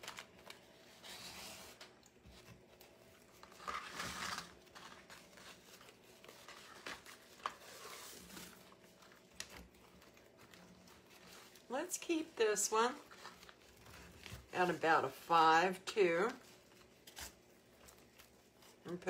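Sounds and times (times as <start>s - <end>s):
ribbon rustling and crinkling: 0.0s - 15.4s, 16.0s - 19.0s.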